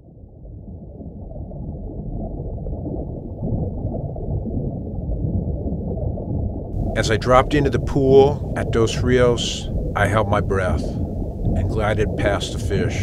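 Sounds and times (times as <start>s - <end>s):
muffled underwater rushing: 0.0s - 13.0s.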